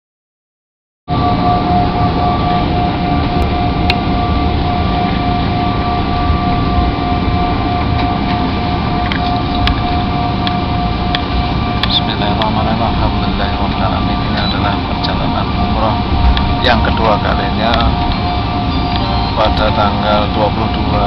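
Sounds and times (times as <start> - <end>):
airliner cabin rumble and hiss: 1.1 - 21.0
steady high-pitched tone: 1.1 - 21.0.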